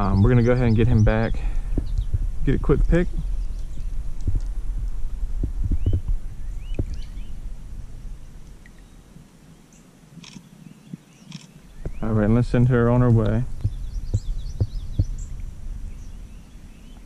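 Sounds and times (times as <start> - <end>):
faint bird chirps: 0.0 - 4.1, 5.6 - 12.6, 13.3 - 17.0
low rumbling noise: 0.0 - 10.1, 11.6 - 17.0.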